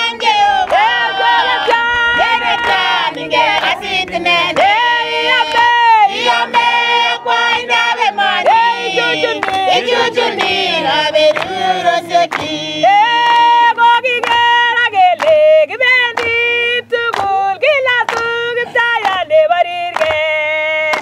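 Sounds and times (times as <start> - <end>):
hand claps: 0.0 - 21.0
woman singing: 0.0 - 21.0.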